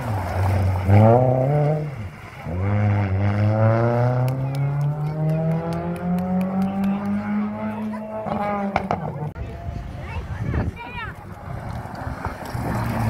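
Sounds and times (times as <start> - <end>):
rally car engine revving: 0.0 - 9.6, 11.4 - 13.0.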